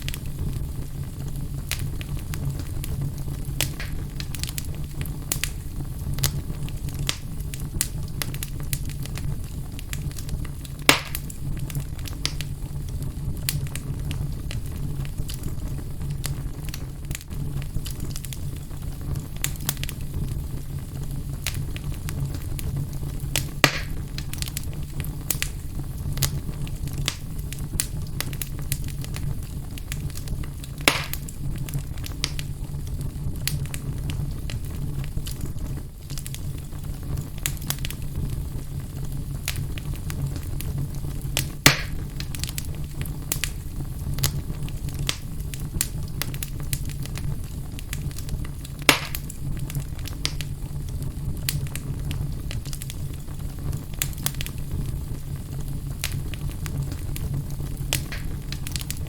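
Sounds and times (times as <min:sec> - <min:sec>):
fire crackling in fireplace: 0:00.0 - 0:59.0
loud fire pops: 0:00.0 - 0:59.0
low fire rumble: 0:00.0 - 0:59.0.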